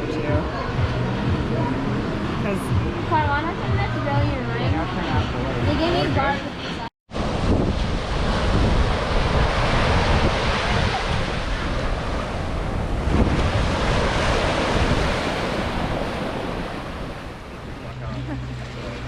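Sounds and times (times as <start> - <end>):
waves washing: 0.0 - 19.0
wind on microphone: 0.0 - 19.0.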